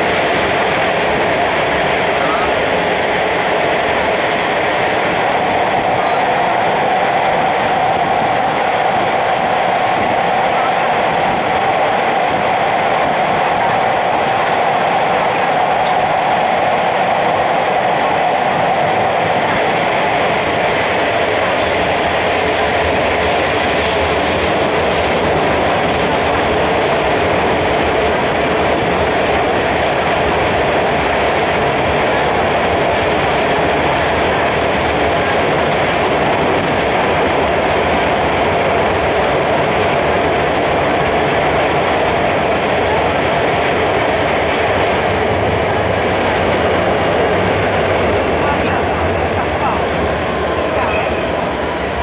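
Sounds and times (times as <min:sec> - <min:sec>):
metro train wheels on rail: 0:00.0 - 0:52.0
train running roar: 0:00.0 - 0:52.0.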